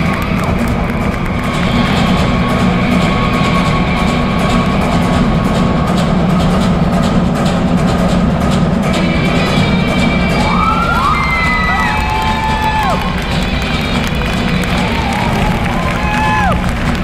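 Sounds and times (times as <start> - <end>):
dance music with low drone: 0.0 - 17.0.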